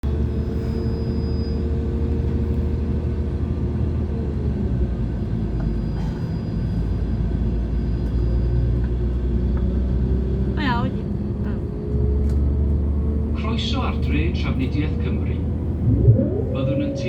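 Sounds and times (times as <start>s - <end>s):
diesel train engine rumbling: 0.0s - 17.0s.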